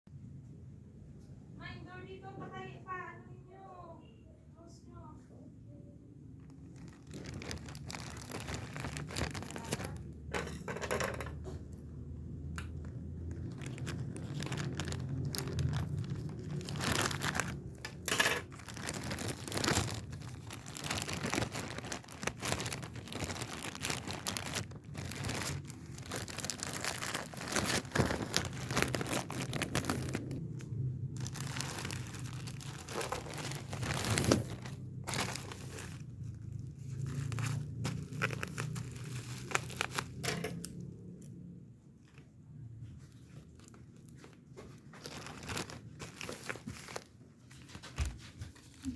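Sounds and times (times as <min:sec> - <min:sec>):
packaging crinkling and tearing: 0:06.3 - 0:10.6, 0:11.8 - 0:41.4, 0:42.8 - 0:48.9.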